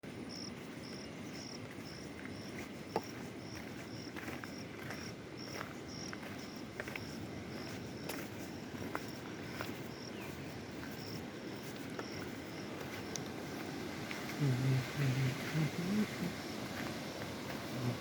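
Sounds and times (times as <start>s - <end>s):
river flowing: 0.0s - 18.0s
insect chirping: 0.1s - 18.0s.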